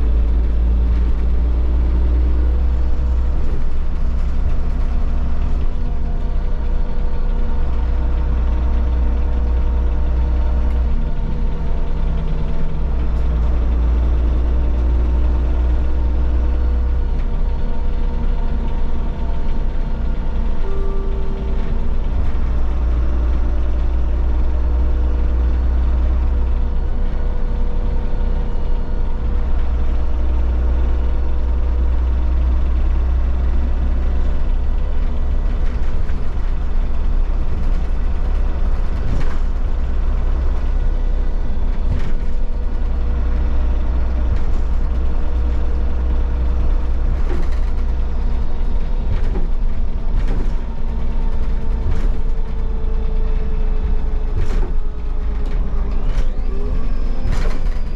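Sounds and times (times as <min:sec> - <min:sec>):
bus body knocks and rattles: 0:00.0 - 0:57.9
bus engine rumble: 0:00.0 - 0:57.9.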